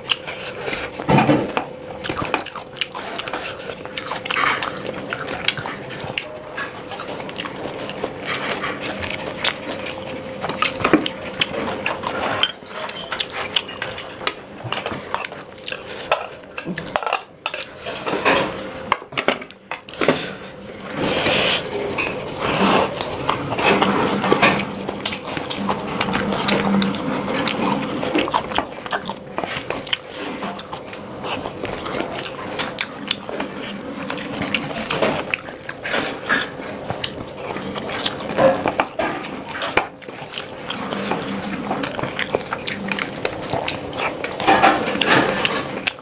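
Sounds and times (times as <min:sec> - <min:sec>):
chewing and wet mouth sounds: 0:00.0 - 0:46.0.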